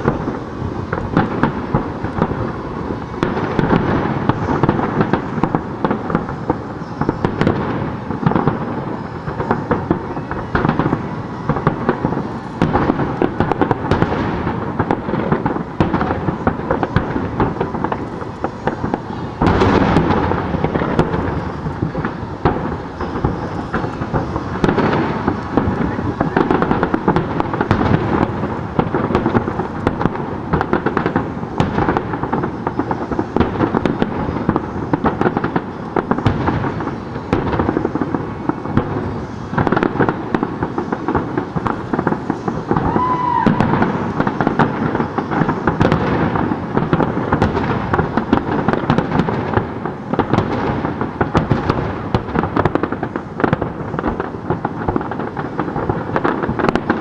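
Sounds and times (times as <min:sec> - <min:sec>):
firework whistle: 0:00.0 - 0:57.0
fireworks bangs: 0:00.0 - 0:57.0
fireworks crackle: 0:00.0 - 0:57.0.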